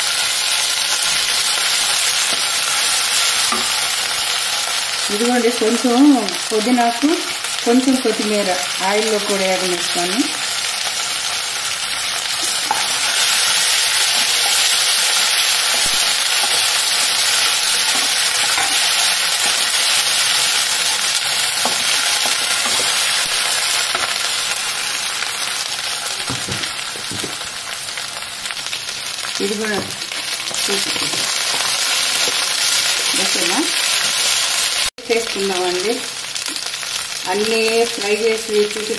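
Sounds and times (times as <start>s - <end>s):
leaves sizzling in hot oil: 0.0s - 38.9s.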